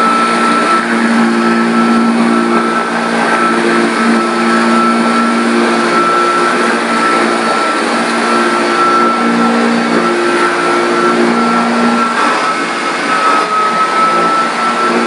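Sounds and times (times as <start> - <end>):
vacuum cleaner running on carpet: 0.0 - 15.0.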